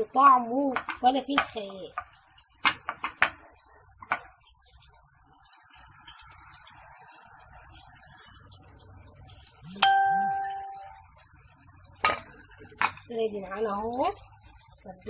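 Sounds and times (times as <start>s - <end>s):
cutlets sizzling in oil: 0.0s - 15.0s.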